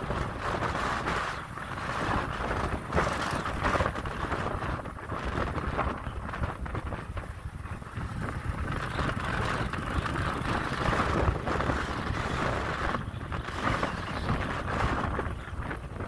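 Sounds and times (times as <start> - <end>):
motorbike running: 0.0 - 16.0
wind buffeting microphone: 0.0 - 16.0.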